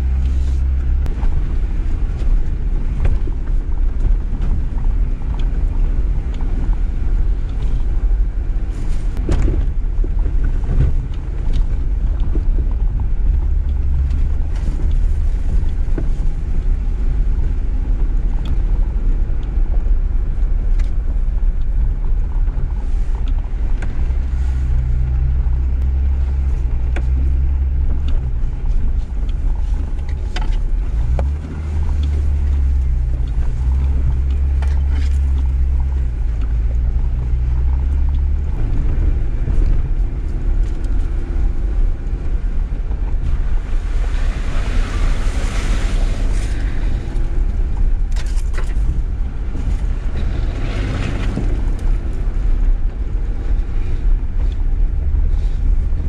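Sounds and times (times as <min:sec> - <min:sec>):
vehicle engine and drivetrain rumble: 0:00.0 - 0:56.0.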